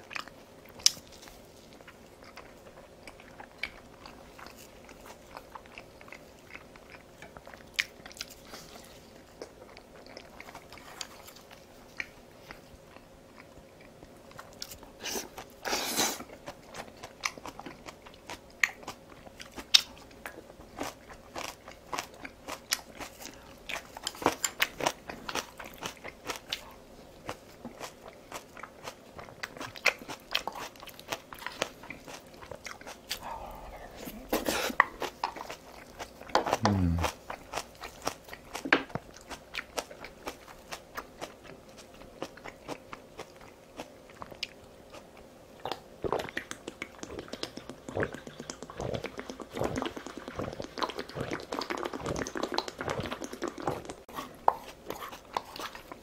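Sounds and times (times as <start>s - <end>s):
chewing and biting: 0.0s - 56.0s.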